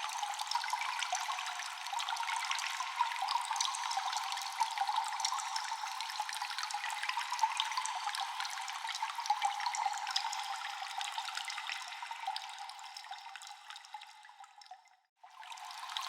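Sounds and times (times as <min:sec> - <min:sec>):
cave water trickling with echo: 0:00.0 - 0:16.0
water drips: 0:00.0 - 0:16.0.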